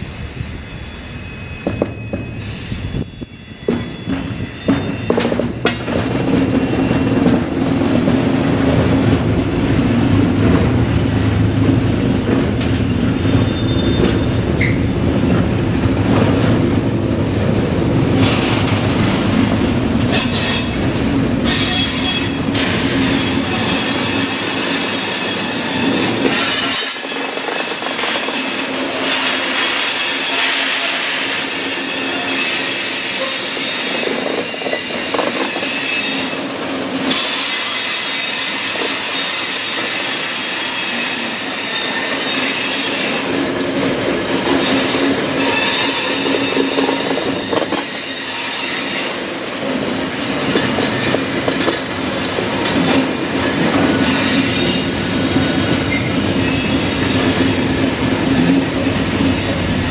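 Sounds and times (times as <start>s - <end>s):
train wheels squealing: 0.0s - 8.8s, 11.1s - 18.8s, 20.1s - 43.5s, 44.5s - 49.5s, 50.5s - 59.9s
train wheels rumbling and clattering: 0.0s - 59.9s.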